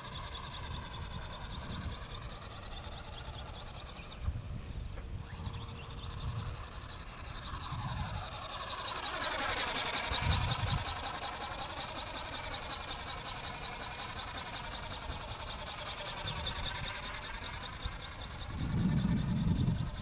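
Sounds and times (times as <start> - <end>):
model bird motor buzzing whine: 0.0 - 20.0.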